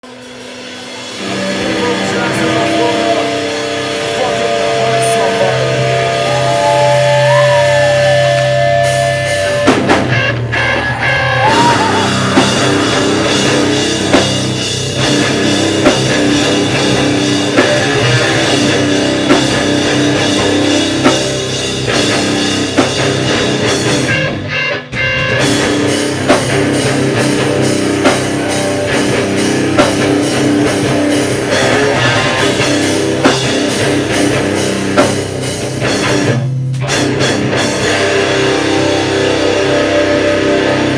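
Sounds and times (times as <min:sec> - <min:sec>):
distorted electric guitars: 0:00.0 - 0:40.9
pounding drum kit: 0:00.0 - 0:40.9.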